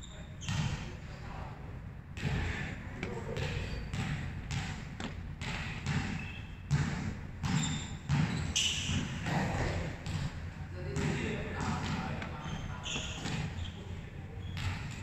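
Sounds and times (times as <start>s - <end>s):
ball bouncing on hard floor: 2.2s - 13.7s, 14.4s - 15.0s.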